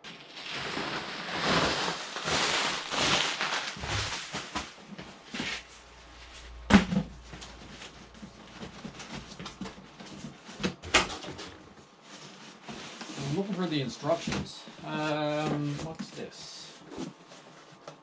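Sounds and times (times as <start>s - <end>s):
cardboard scraping and rustling: 0.0s - 18.0s.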